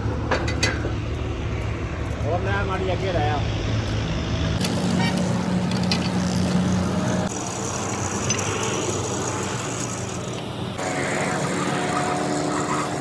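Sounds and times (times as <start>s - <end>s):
heavy machinery humming: 0.0s - 13.0s.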